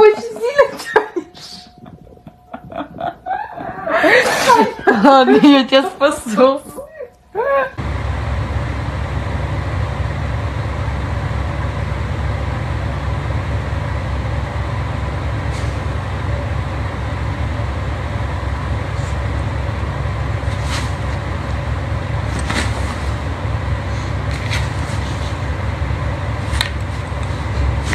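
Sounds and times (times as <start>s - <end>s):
low rumble: 1.2s - 6.8s, 7.8s - 27.9s.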